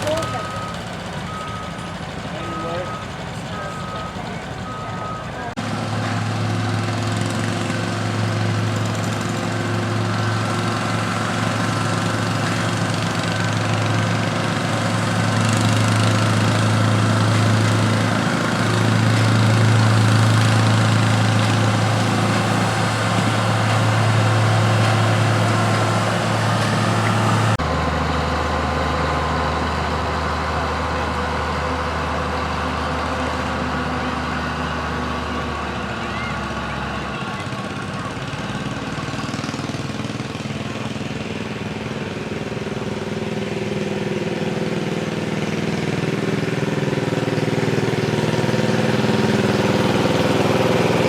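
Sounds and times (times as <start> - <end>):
garden tractor engine running: 0.0 - 51.0.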